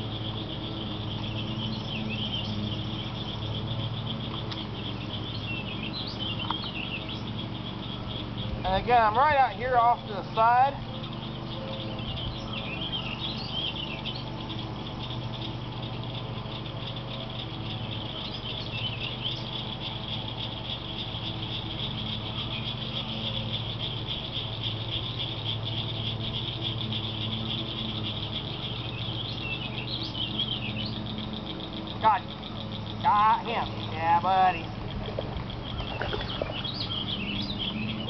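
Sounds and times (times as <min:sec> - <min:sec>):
bird chirping: 0:00.0 - 0:38.0
insects buzzing: 0:00.0 - 0:38.0
low steady hum: 0:00.0 - 0:38.0.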